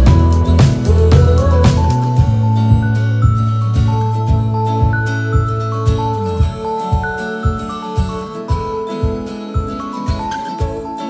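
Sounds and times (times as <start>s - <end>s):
light melody over low beat: 0.0s - 11.0s.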